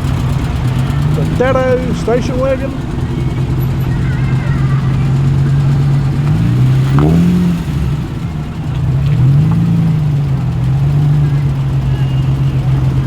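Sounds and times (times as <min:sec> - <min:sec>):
car engine idling: 0:00.0 - 0:13.0
engine revving: 0:00.0 - 0:13.0.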